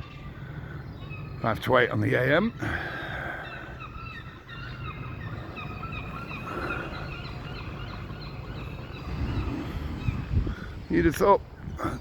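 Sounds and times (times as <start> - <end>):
birds calling: 0.0 - 12.0
low rumble of traffic: 0.0 - 12.0.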